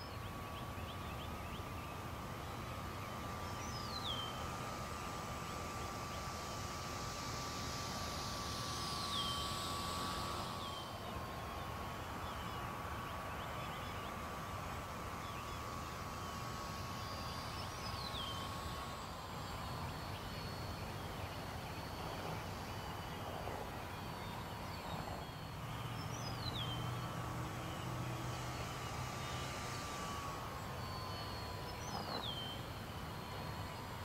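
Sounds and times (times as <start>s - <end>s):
birds chirping: 0.0s - 34.0s
distant model airplane motor drone: 0.0s - 34.0s.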